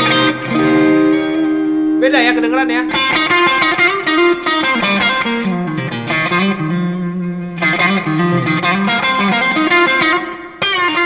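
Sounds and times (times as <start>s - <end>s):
electric guitar melody: 0.0s - 11.0s.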